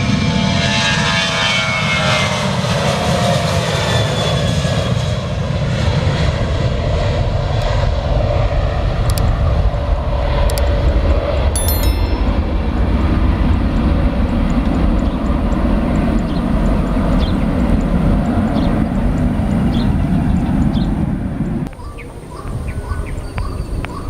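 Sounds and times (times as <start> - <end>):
airliner engines rumbling: 0.0 - 24.0
jet engine whine: 0.0 - 24.0.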